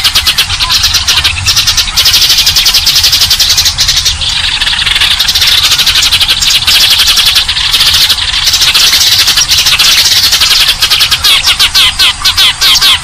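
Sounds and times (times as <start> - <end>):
sparrows chirping rapidly: 0.0 - 13.0.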